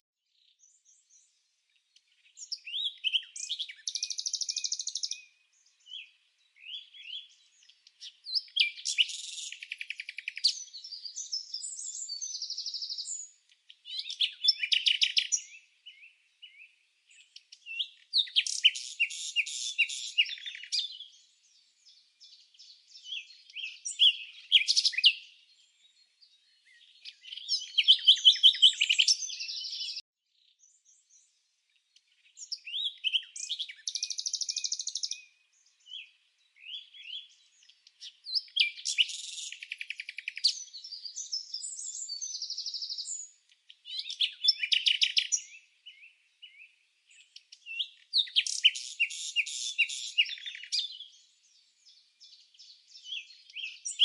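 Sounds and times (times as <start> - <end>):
songbirds chirping: 0.2 - 54.0.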